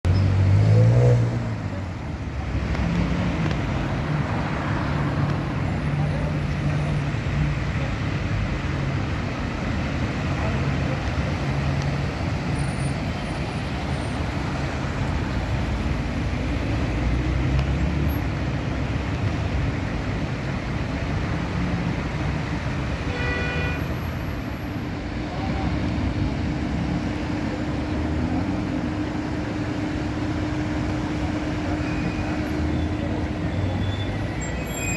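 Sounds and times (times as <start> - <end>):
car engines humming: 0.0 - 34.9
tyres on asphalt: 0.0 - 34.9.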